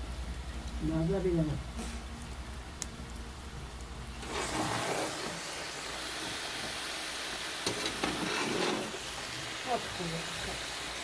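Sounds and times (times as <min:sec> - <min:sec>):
eggplant sizzling in oil: 0:00.8 - 0:11.0.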